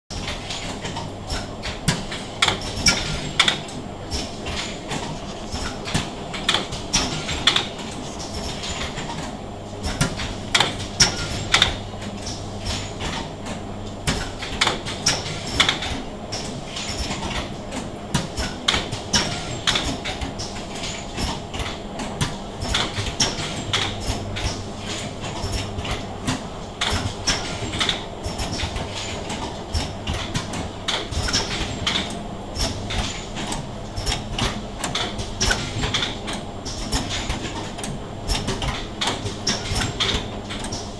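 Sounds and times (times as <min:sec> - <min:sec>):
low electrical hum: 0:00.1 - 0:40.9.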